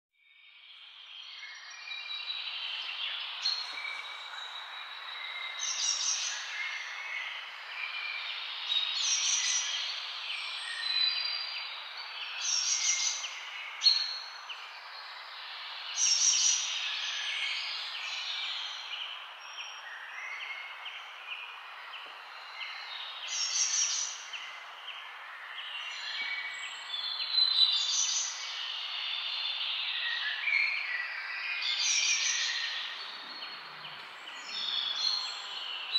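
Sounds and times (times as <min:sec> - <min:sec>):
songbirds singing: 0:00.2 - 0:35.9.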